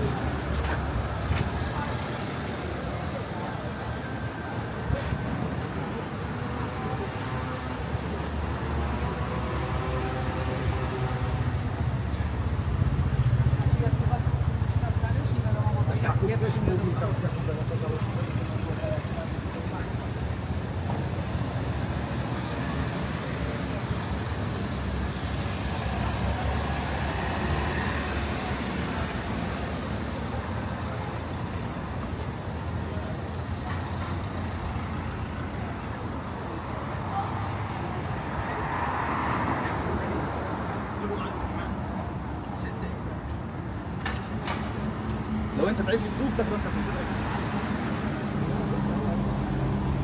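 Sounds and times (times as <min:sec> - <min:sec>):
city traffic rumble: 0:00.0 - 0:50.0
hum of passing vehicles: 0:00.0 - 0:50.0.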